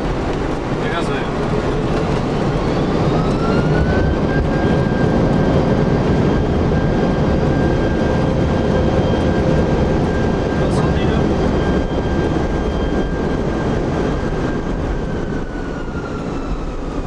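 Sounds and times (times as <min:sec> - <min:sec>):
jet engine whine: 0:00.0 - 0:17.0
loud rumble of engines and runway: 0:00.0 - 0:17.0.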